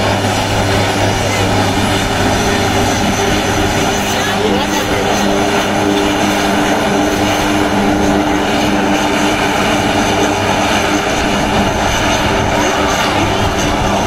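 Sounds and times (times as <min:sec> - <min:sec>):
propeller engine drone: 0:00.0 - 0:14.0.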